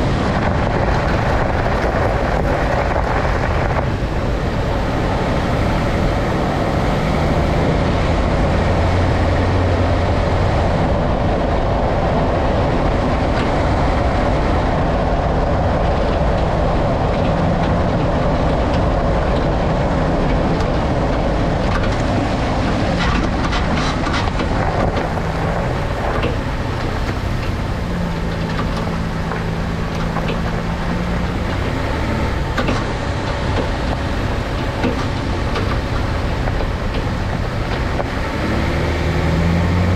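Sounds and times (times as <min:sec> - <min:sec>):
pickup truck engine and road noise: 0:00.0 - 0:39.9
suspension clunking knocks: 0:00.0 - 0:39.9.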